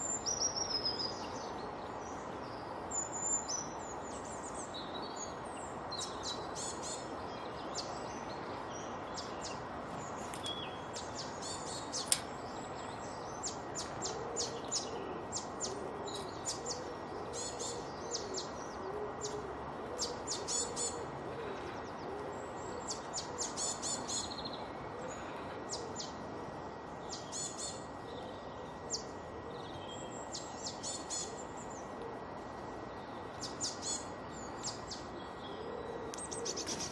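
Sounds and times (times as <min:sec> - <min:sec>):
background hiss: 0:00.0 - 0:36.9
songbirds chirping: 0:00.0 - 0:36.9.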